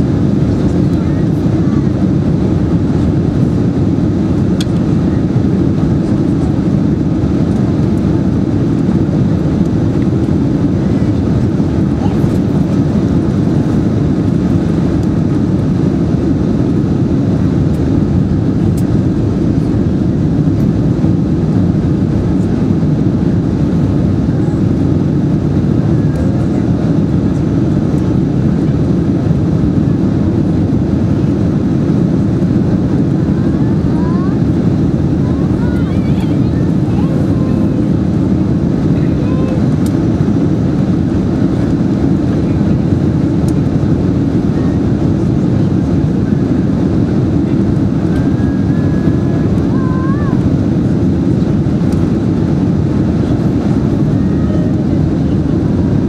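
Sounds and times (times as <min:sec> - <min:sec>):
airliner cabin engine and airflow noise: 0:00.0 - 0:56.0.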